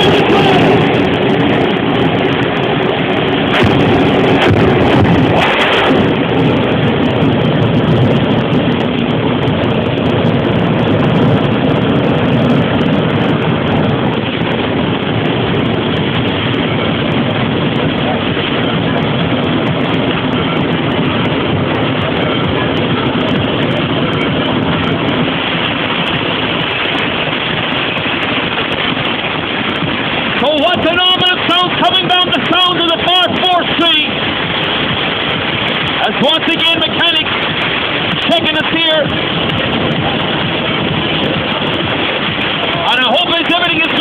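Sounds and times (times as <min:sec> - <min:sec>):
jet engine roaring: 0:00.0 - 0:44.0.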